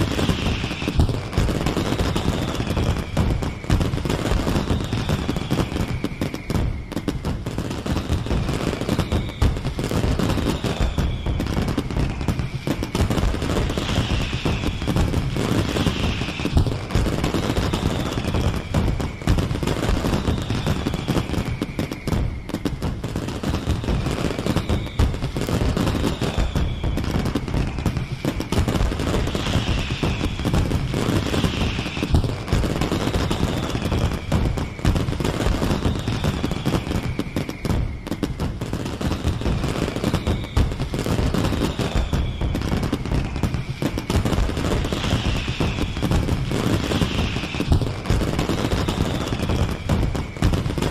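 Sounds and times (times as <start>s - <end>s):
firework whistle sliding down: 0.0s - 50.9s
fireworks crackling and popping: 0.0s - 50.9s.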